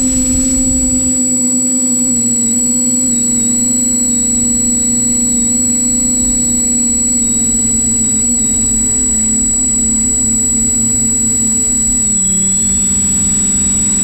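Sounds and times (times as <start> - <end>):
drone motors humming: 0.0 - 14.0
thin high whine: 0.0 - 14.0.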